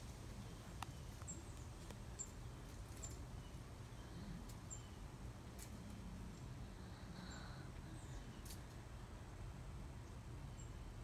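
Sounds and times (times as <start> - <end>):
low steady background rumble: 0.0 - 11.0.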